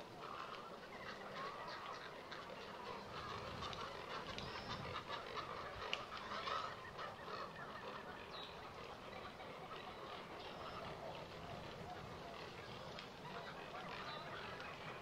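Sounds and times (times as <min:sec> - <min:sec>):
waterbird colony calling: 0:00.0 - 0:15.0.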